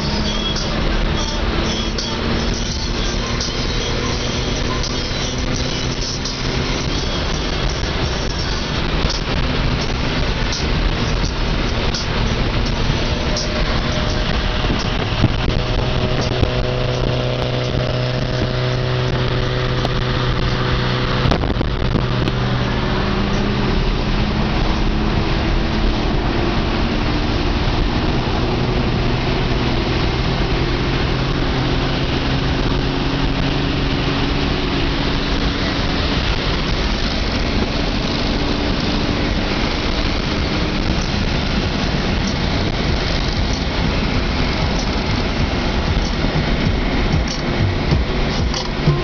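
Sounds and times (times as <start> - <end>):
car engine at high revs: 0.0 - 49.0
wind and road noise: 0.0 - 49.0.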